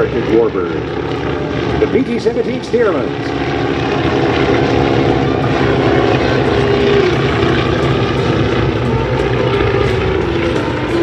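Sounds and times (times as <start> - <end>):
propeller engines droning overhead: 0.0 - 11.0.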